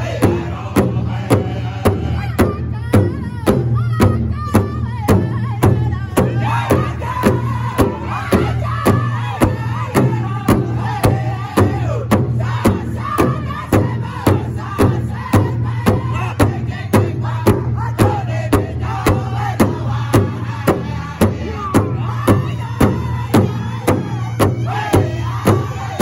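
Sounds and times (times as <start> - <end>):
large hand drum beating: 0.0 - 26.0
men singing in high voices: 0.0 - 26.0.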